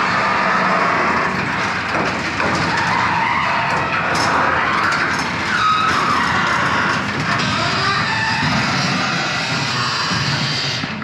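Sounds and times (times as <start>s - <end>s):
garage door rolling open: 0.0s - 11.0s
door parts squeaking: 1.3s - 11.0s.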